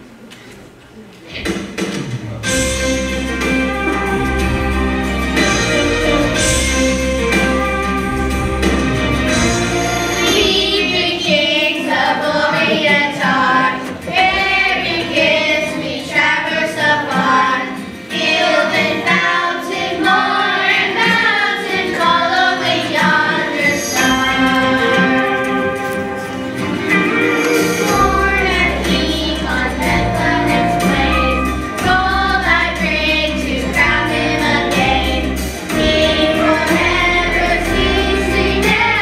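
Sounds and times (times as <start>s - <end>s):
instrumental accompaniment: 1.3s - 39.0s
children's choir singing: 3.1s - 39.0s.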